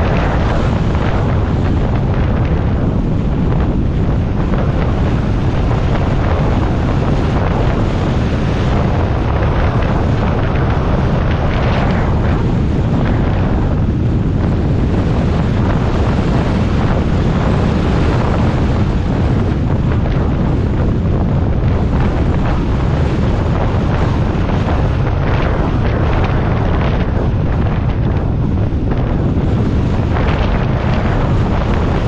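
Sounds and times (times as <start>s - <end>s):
low rumble: 0.0s - 32.0s
wind buffeting microphone: 0.0s - 32.0s.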